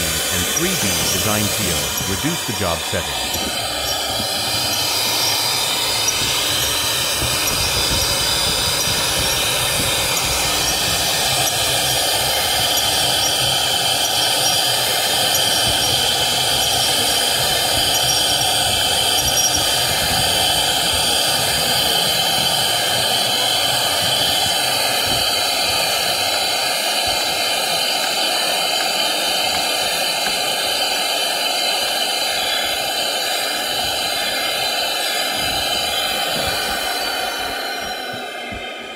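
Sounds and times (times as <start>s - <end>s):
router spindle carving wood: 0.0s - 38.9s.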